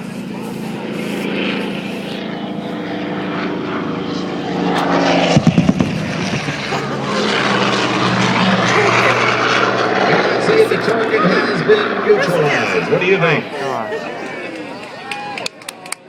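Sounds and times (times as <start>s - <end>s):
propeller plane flying past: 0.0s - 16.0s.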